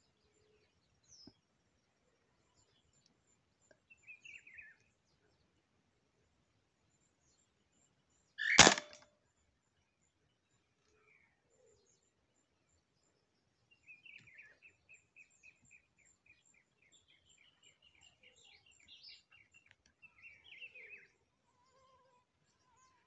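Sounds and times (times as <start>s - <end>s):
bird singing faintly: 0.0s - 5.6s, 6.8s - 23.0s.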